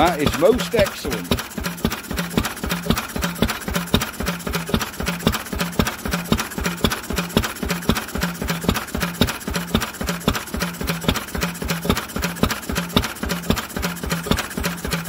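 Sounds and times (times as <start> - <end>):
stationary engine running: 0.0 - 15.0.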